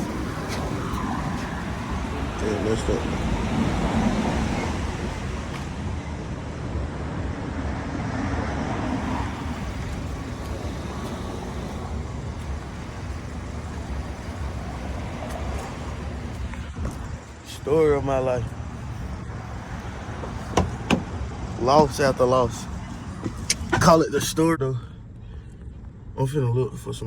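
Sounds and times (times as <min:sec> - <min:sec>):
road traffic passing: 0:00.0 - 0:26.1.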